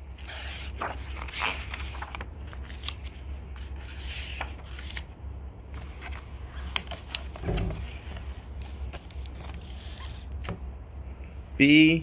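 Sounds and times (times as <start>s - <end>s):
book pages turning: 0.0s - 10.7s.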